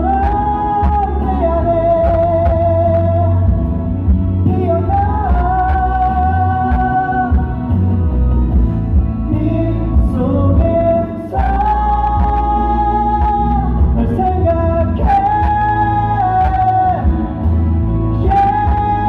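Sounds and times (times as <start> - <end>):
backing track with heavy bass: 0.0 - 19.0
person singing a ballad: 0.0 - 19.0.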